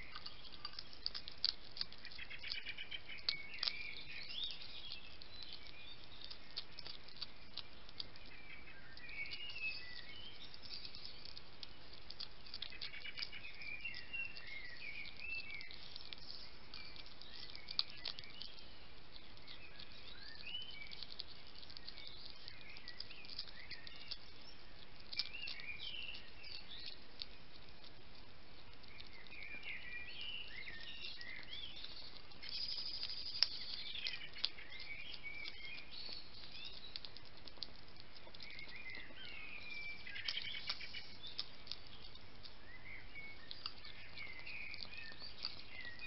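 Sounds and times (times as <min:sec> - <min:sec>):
hedgehog chewing and crunching: 0:00.0 - 0:46.0.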